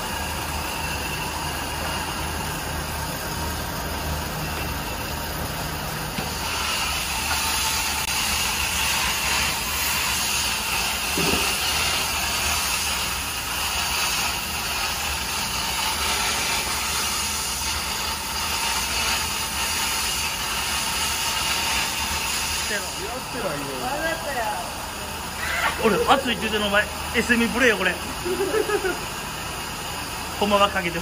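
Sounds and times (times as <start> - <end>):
steam hissing: 0.0 - 31.0
water at a rolling boil: 0.0 - 31.0.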